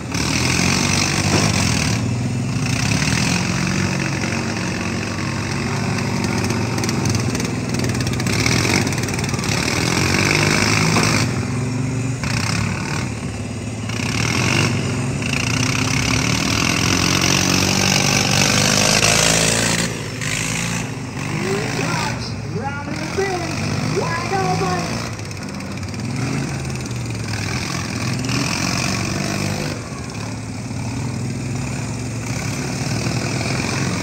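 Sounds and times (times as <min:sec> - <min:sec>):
riding mower engines revving: 0:00.0 - 0:34.0.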